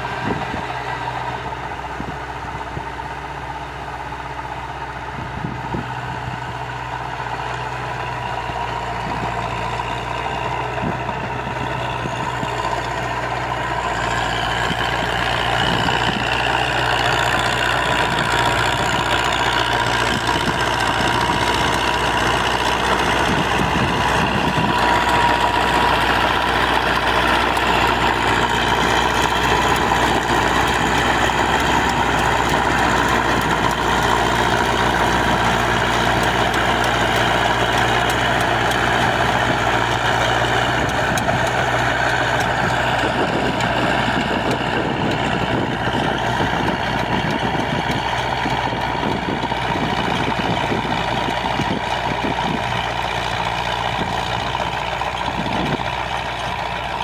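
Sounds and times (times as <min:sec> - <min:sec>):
tracked tractor engine running: 0:00.0 - 0:57.0
rotary tiller churning soil: 0:07.3 - 0:57.0.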